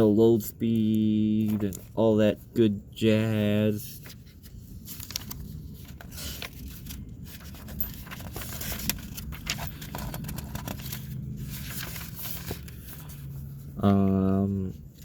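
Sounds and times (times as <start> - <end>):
low background rumble: 0.0 - 15.0
paper pages turning: 0.7 - 2.2, 3.6 - 15.0.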